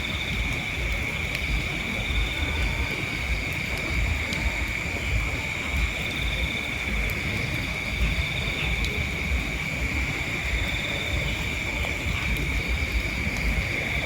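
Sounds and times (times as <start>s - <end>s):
night insects chirring: 0.0s - 14.0s
wind rumble on microphone: 0.0s - 14.0s.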